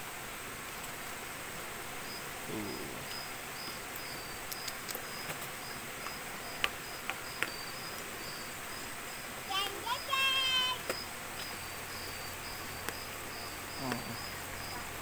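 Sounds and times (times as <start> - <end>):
cricket chirping: 1.5 - 15.0.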